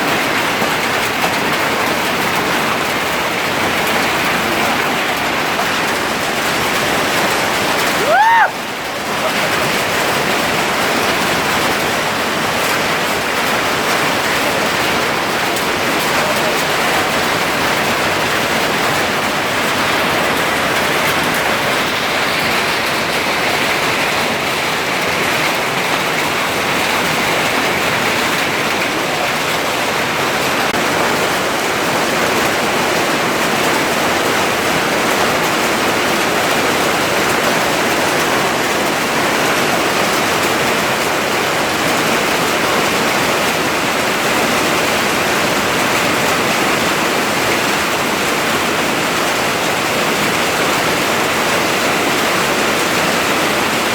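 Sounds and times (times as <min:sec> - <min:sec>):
hail and rain beating down: 0:00.0 - 0:53.9.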